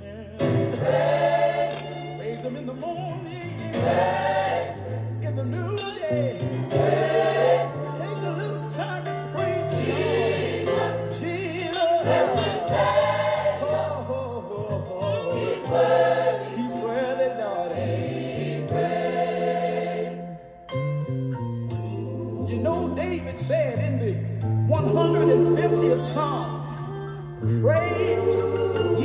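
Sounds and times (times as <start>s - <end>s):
gospel choir singing: 0.4s - 5.3s, 6.4s - 20.6s, 21.8s - 23.4s, 24.8s - 29.0s.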